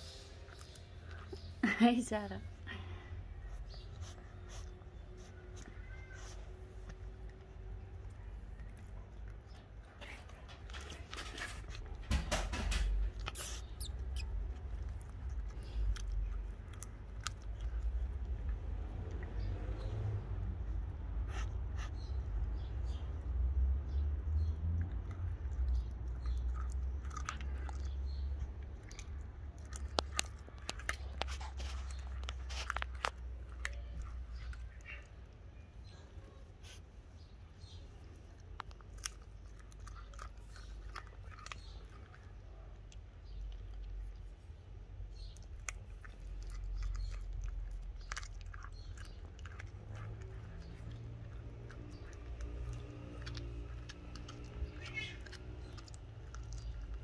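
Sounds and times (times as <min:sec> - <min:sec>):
cat chewing and crunching bone: 0:00.0 - 0:57.0.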